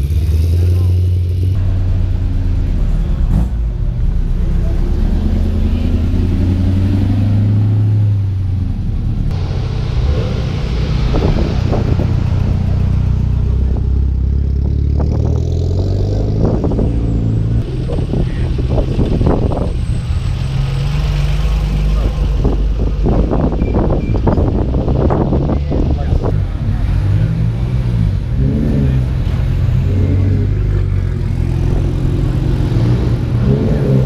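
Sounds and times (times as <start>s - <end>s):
car engines idling: 0.0s - 34.0s.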